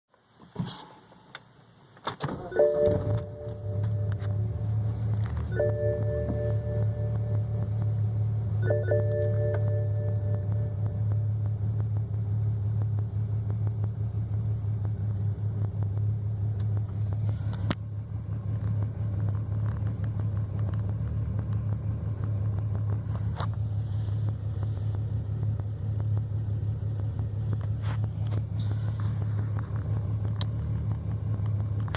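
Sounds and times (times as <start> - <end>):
car engine idling: 1.0 - 31.9.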